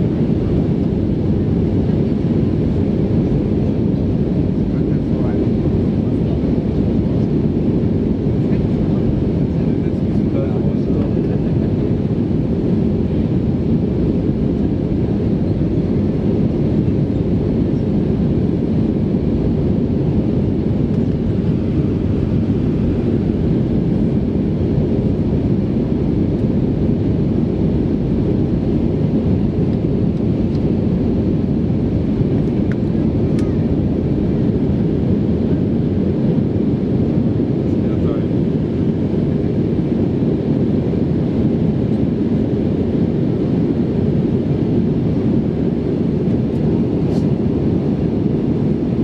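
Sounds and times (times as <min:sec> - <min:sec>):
jet engines and airflow rumble: 0:00.0 - 0:49.0.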